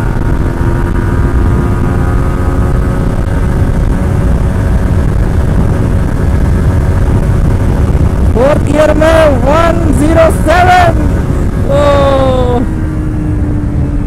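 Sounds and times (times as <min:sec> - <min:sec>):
motorcycle engine running hard: 0:00.0 - 0:14.0.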